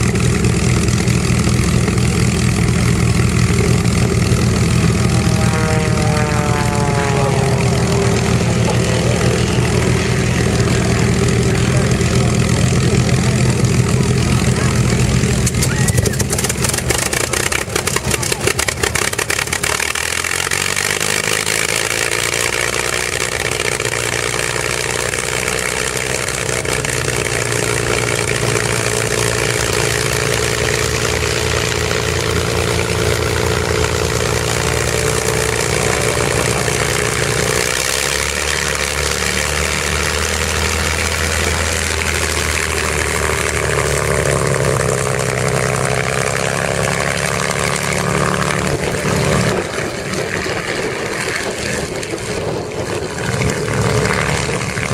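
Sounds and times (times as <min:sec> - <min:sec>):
piston engine idling: 0:00.0 - 0:51.2
exhaust popping: 0:00.0 - 0:54.9.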